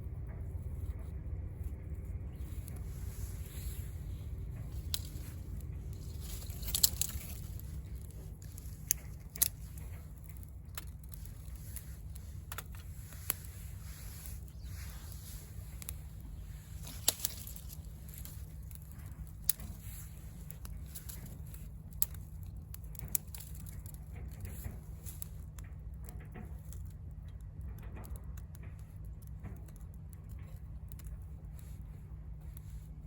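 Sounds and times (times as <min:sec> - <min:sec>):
fire popping: 0:00.0 - 0:33.0
wood fire crackling: 0:00.0 - 0:33.0.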